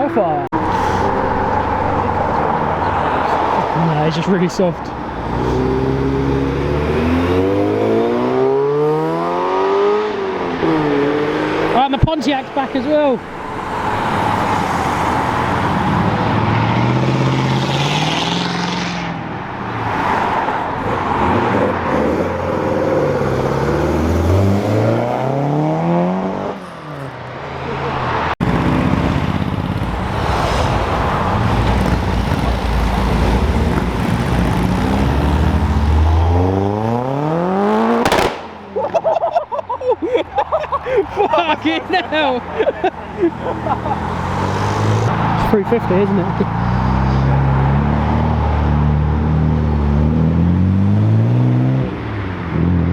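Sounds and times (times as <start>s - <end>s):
cars accelerating hard: 0.0s - 52.9s.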